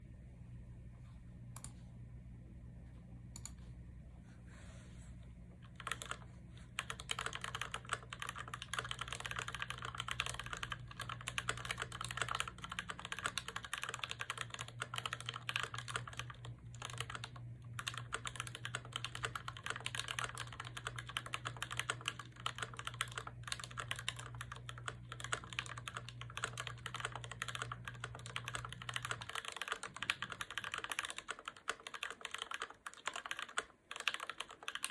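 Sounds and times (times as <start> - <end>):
low steady hum: 0.0 - 34.9
typing on mechanical keyboard: 5.6 - 34.9.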